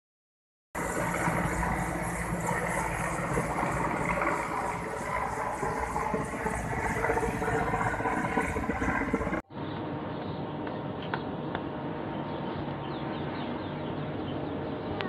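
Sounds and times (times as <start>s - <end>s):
helicopter engines droning: 0.8s - 15.0s
helicopter rotor blades beating: 0.8s - 15.0s.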